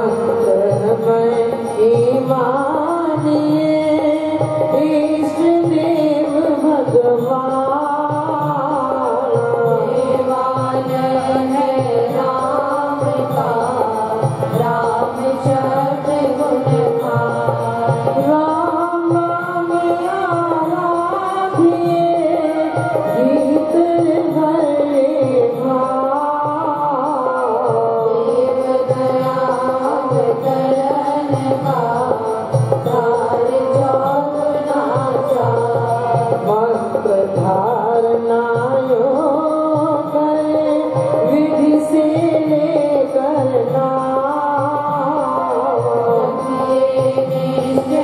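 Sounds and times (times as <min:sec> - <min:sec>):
harmonium: 0:00.0 - 0:48.0
women singing together: 0:00.0 - 0:48.0.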